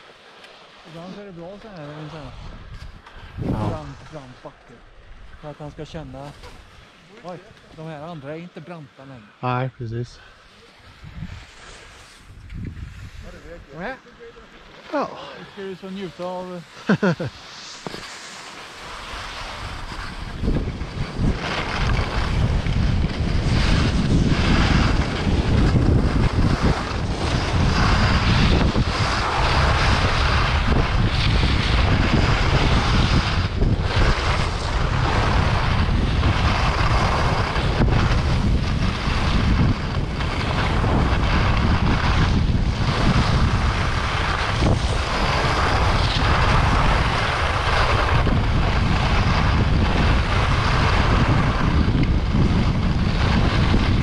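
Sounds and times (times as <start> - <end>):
skis scraping on snow: 0.0 - 9.4, 10.2 - 54.0
wind buffeting microphone: 1.1 - 8.0, 9.9 - 14.5, 18.9 - 54.0.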